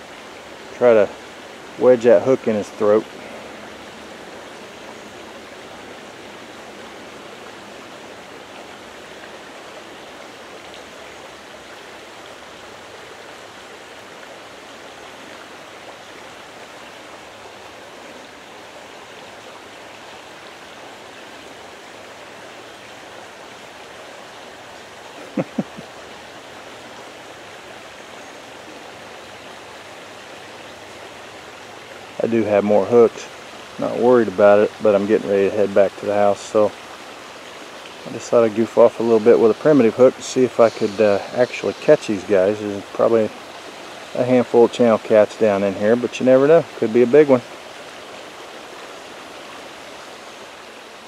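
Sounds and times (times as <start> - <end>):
creek water flowing: 0.0 - 51.0.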